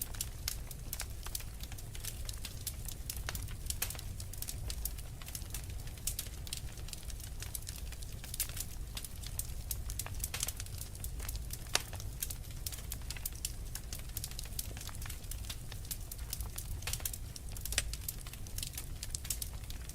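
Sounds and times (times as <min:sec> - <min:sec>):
fire crackling and popping: 0:00.0 - 0:19.9
low rumble of flame: 0:00.0 - 0:19.9.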